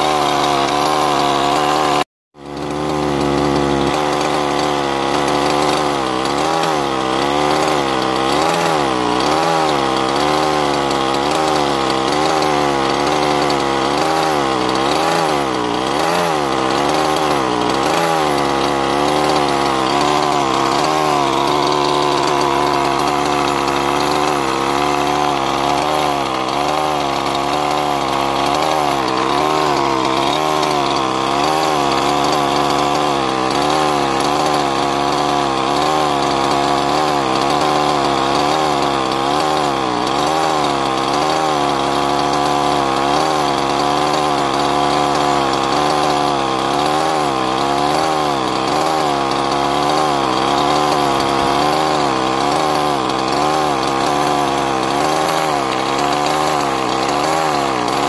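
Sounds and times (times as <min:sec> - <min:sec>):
two-stroke engine idling: 0:00.0 - 0:58.0.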